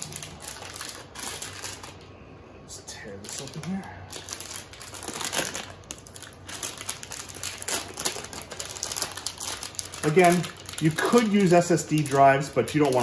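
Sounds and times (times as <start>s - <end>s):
metallic bag crinkling: 0.0s - 2.0s, 3.2s - 13.0s.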